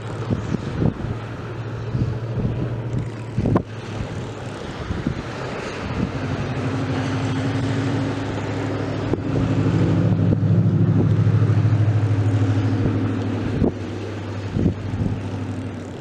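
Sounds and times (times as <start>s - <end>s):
motor pulsing drone: 0.0s - 16.0s
wind on microphone: 0.0s - 16.0s.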